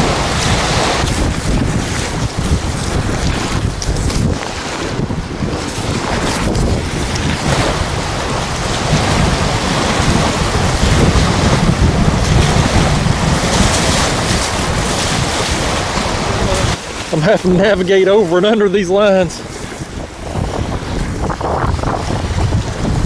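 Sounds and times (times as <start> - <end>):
waves washing onto shore: 0.0 - 23.0
wind buffeting microphone: 0.0 - 23.0.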